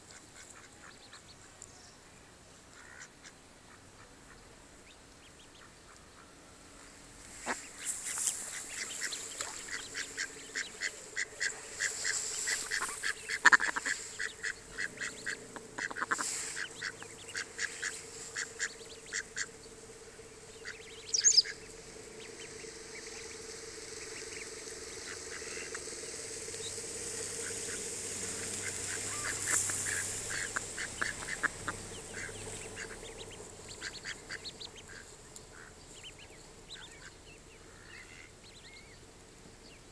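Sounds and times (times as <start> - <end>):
ducklings calling: 0.0 - 1.5, 2.7 - 6.4, 7.3 - 39.0.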